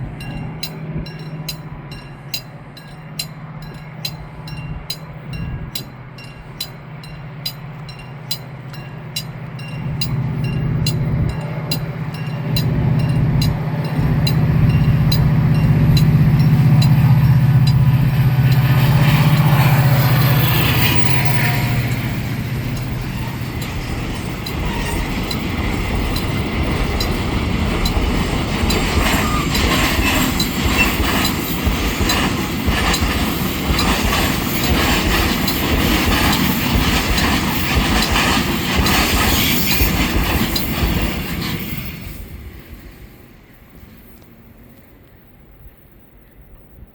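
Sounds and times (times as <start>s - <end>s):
diesel engine drone: 0.0s - 39.2s
wagon wheels clicking on rail joints: 0.0s - 42.3s.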